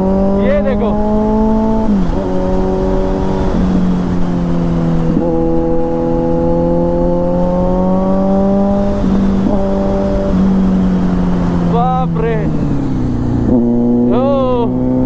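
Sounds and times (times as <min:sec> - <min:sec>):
motorcycle engine at speed: 0:00.0 - 0:15.0
wind rushing over microphone: 0:00.0 - 0:15.0.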